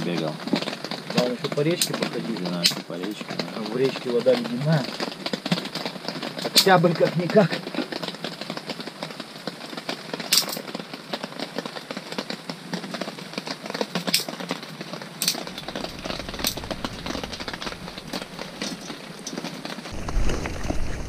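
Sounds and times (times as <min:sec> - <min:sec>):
sharp pops from fire: 0:00.0 - 0:21.0
wood fire crackling: 0:00.0 - 0:21.0.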